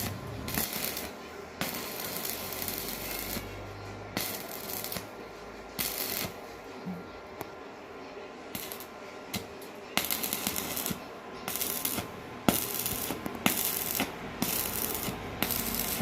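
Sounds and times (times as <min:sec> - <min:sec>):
arc welding crackle: 0:00.0 - 0:06.5, 0:08.5 - 0:16.0.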